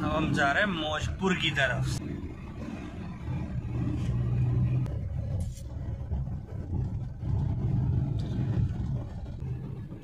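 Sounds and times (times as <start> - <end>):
car engine and road hum: 0.0 - 10.0.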